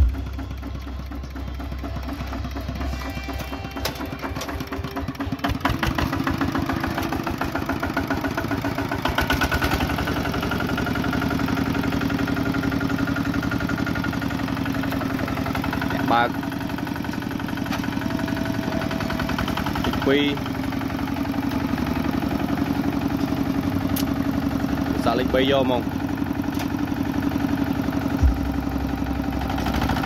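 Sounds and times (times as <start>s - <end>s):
diesel engine chugging: 0.0s - 30.0s.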